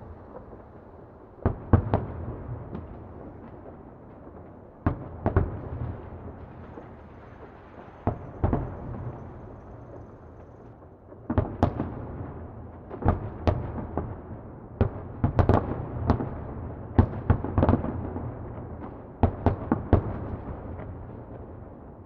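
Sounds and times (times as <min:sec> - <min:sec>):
distant fireworks exploding: 0:00.0 - 0:22.0.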